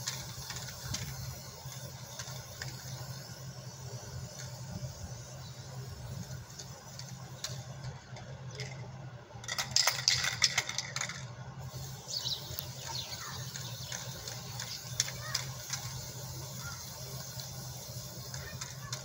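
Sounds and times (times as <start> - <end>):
spray can rattling: 0.0 - 19.0.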